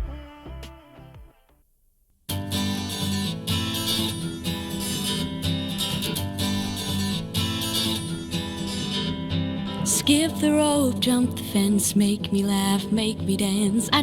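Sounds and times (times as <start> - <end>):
acoustic guitar strumming: 2.3 - 14.0.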